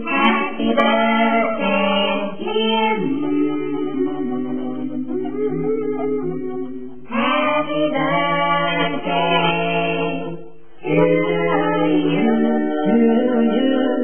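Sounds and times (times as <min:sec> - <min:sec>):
music with singing: 0:00.0 - 0:14.0.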